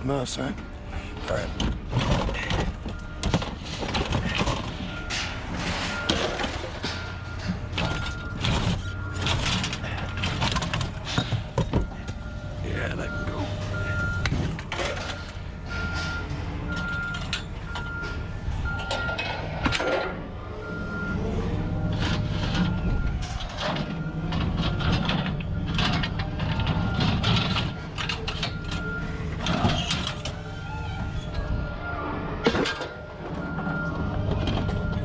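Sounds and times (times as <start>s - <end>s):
low engine rumble: 0.0s - 35.0s
reversing alarm beeping: 0.0s - 35.0s
scrap metal knocks and clatter: 1.2s - 12.4s, 13.0s - 20.2s, 21.9s - 31.7s, 32.4s - 35.0s.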